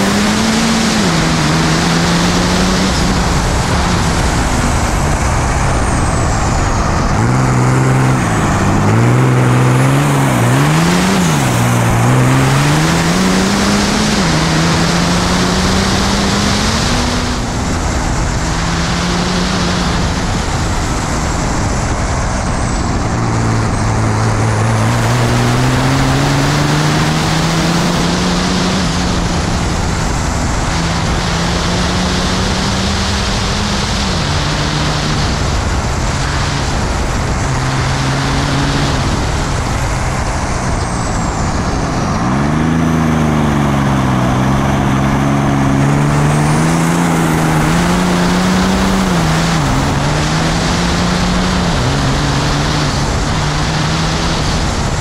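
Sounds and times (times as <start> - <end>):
diesel race engine under load: 0.0 - 55.0
steady rushing noise: 0.0 - 55.0.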